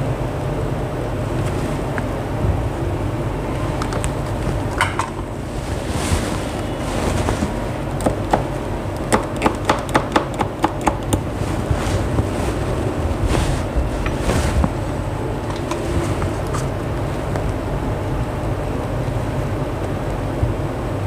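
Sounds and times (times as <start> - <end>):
low rumbling noise: 0.0 - 9.2, 10.8 - 21.0.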